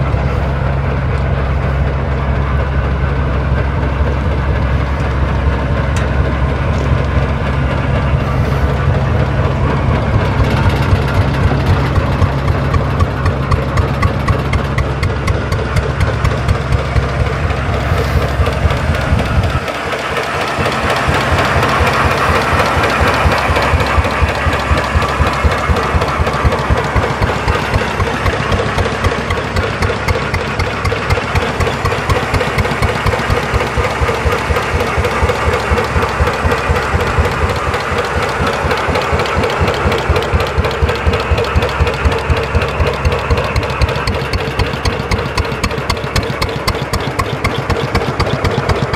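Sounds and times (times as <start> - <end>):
deep rumble: 0.0 - 48.9
gas engine chugging: 0.0 - 48.9.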